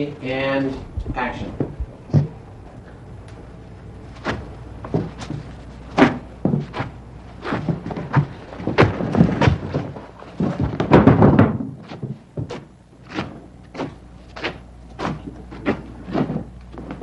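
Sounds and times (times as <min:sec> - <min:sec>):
dull thumps and knocks: 0:01.0 - 0:02.4, 0:04.2 - 0:17.0.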